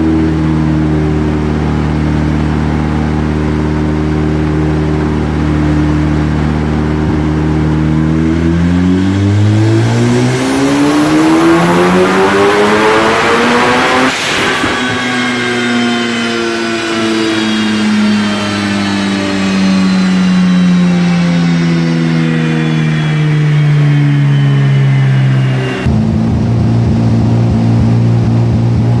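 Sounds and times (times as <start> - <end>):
rotary engine winding down: 0.0 - 29.0.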